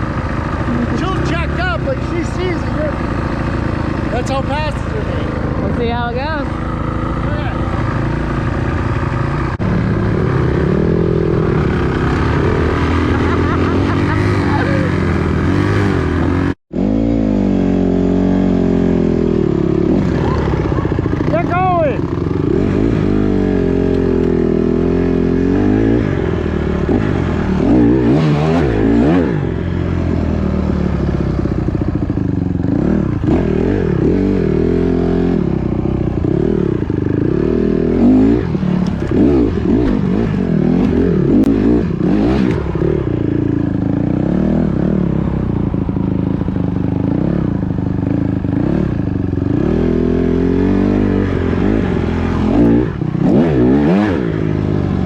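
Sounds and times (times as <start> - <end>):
dirt bikes revving: 0.0 - 55.0.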